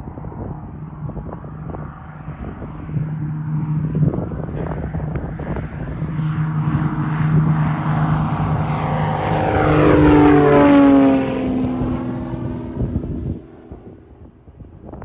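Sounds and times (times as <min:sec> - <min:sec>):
propeller plane taking off: 0:00.0 - 0:15.0.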